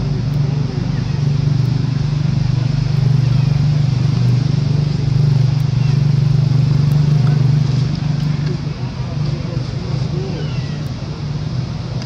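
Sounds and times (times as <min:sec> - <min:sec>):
motor humming steadily: 0:00.0 - 0:12.0.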